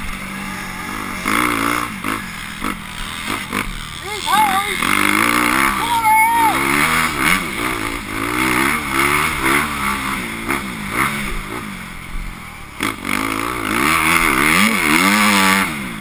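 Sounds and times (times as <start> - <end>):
motorbike engines revving: 0.0 - 16.0.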